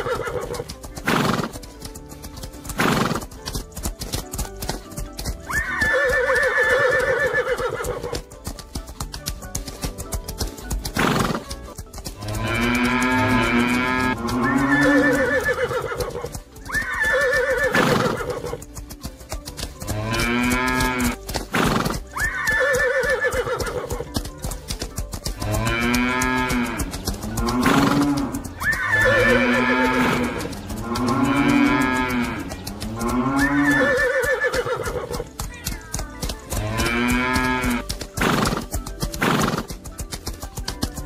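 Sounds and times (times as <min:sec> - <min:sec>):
background music: 0:00.0 - 0:41.0
drawn-out animal calls: 0:00.0 - 0:41.0
galloping hooves clatter: 0:00.0 - 0:41.0.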